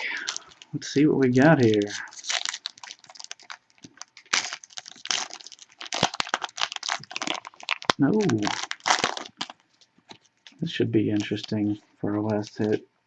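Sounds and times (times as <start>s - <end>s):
wrapper tearing and crinkling: 0.1s - 11.7s.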